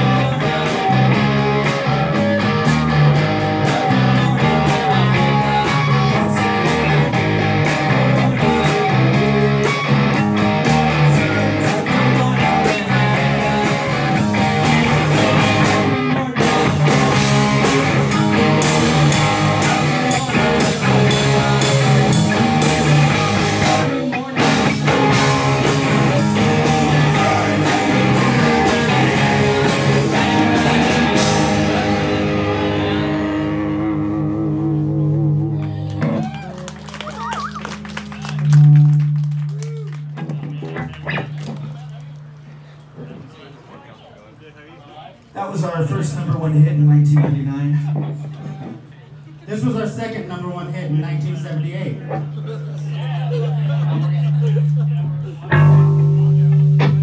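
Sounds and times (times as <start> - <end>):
drums: 0.0 - 43.4, 45.9 - 57.0
electric guitars: 0.0 - 43.5, 45.2 - 57.0
bass guitar: 0.0 - 43.6, 45.5 - 57.0.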